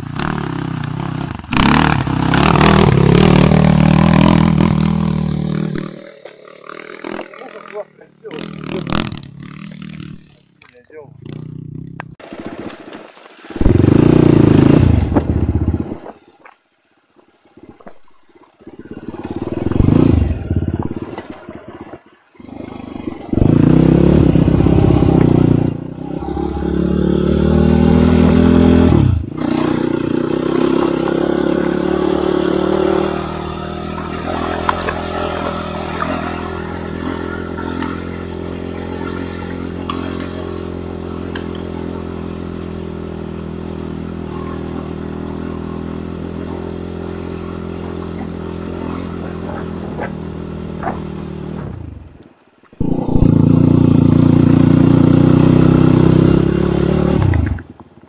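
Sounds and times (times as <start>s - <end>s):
motorcycle engine revving: 0.0s - 12.2s, 13.6s - 16.2s, 18.6s - 52.2s, 52.8s - 57.9s.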